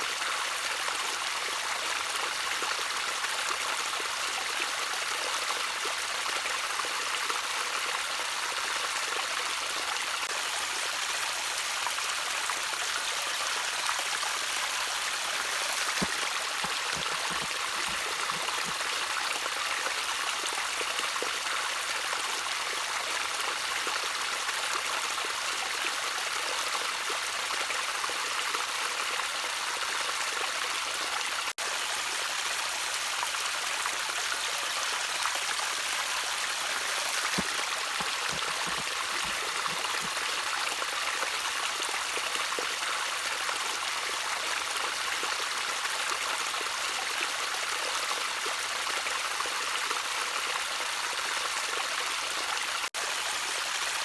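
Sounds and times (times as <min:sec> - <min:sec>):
trickling stream: 0:00.0 - 0:54.0.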